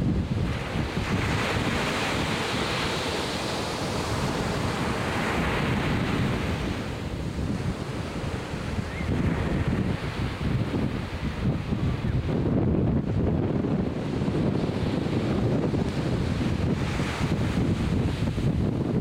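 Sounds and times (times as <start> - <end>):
ocean surf breaking: 0.0 - 18.9
wind buffeting microphone: 0.0 - 19.0.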